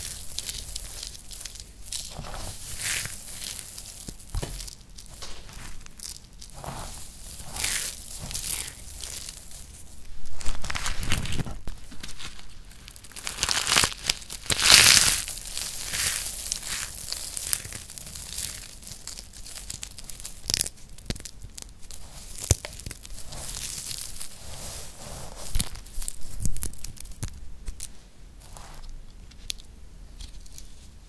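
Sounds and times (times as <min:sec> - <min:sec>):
soap shavings crackling and crunching: 0:00.0 - 0:30.9.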